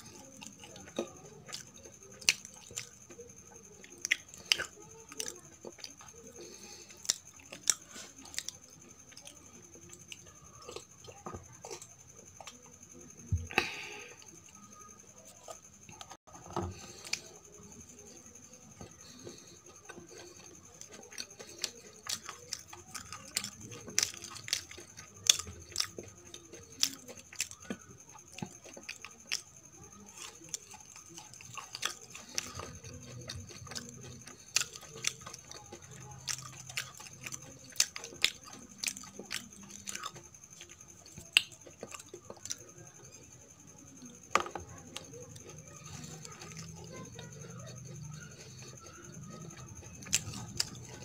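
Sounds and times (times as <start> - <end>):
person chewing sweets: 0.0 - 51.0.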